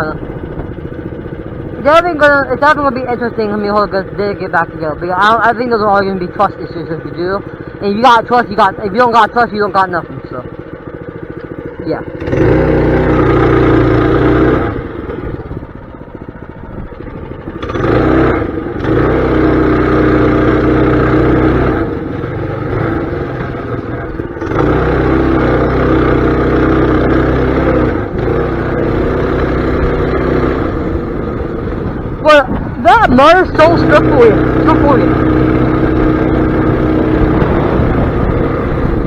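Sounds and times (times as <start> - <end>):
mini bike engine revving: 0.0 - 39.0.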